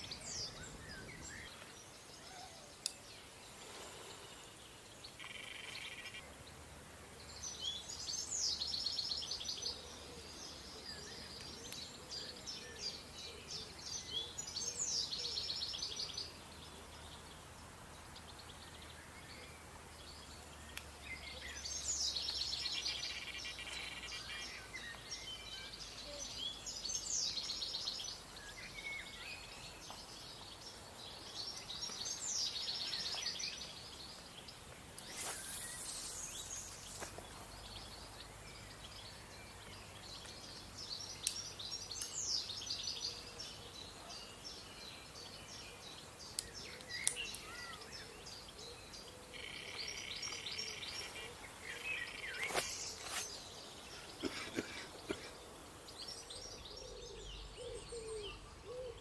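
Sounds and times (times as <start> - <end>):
background hiss: 0.0 - 59.0
songbirds trilling: 0.0 - 59.0.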